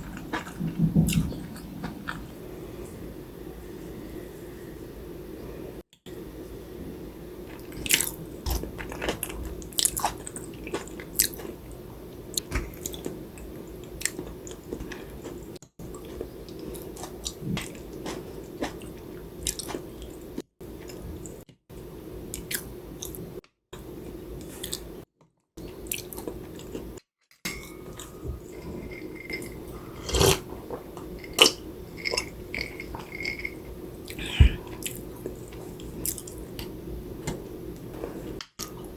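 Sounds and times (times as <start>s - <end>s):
steady low hum: 0.0s - 25.0s, 25.6s - 38.9s.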